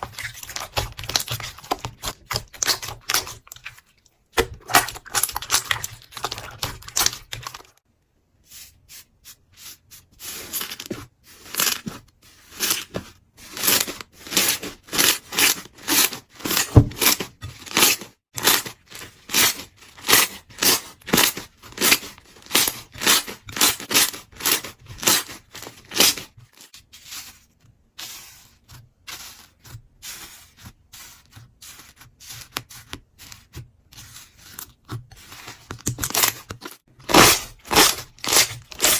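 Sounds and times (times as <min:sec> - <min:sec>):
slime squishing by hand: 0:00.0 - 0:07.8, 0:08.4 - 0:38.9.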